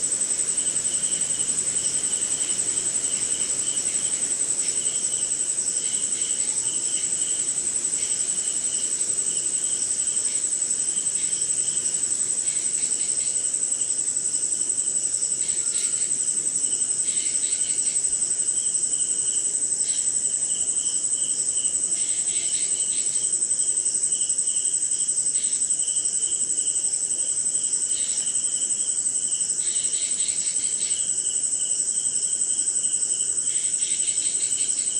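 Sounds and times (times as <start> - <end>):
high-pitched insect trill: 0.0 - 34.9.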